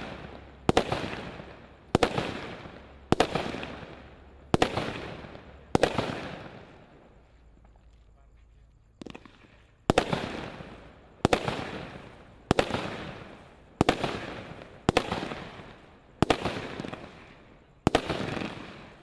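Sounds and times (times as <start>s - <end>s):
firework barrage bangs: 0.0s - 7.1s, 9.0s - 19.0s.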